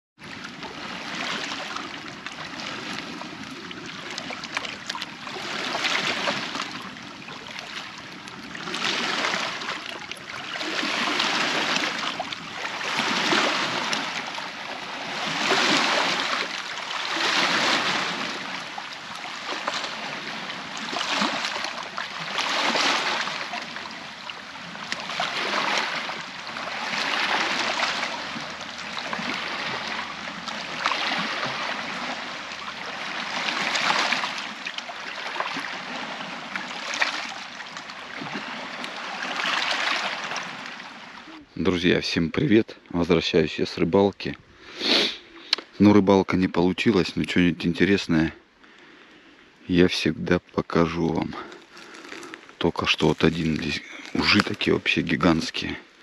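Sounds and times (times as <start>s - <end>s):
small waves washing ashore: 0.2s - 56.0s.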